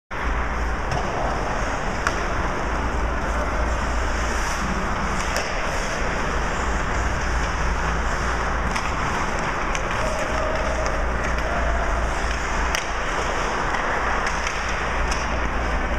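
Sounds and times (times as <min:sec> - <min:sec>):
constant low hum: 0:00.1 - 0:15.9
arena noise: 0:00.2 - 0:15.9
skates on ice: 0:00.6 - 0:15.9
sticks hitting puck: 0:00.8 - 0:15.8.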